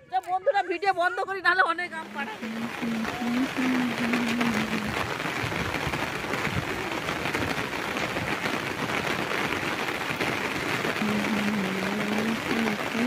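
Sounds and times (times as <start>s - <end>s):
heavy rain on water: 1.7s - 13.0s.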